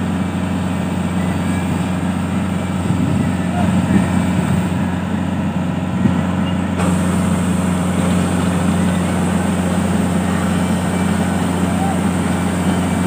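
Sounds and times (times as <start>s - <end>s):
auger unloading grain: 0.0s - 13.0s
harvester engine running: 0.0s - 13.0s.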